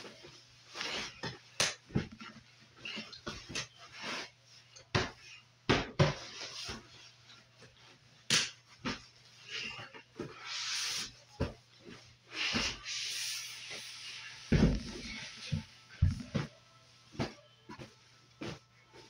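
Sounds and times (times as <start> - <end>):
bedding rustling: 0.0 - 5.4, 6.2 - 19.0.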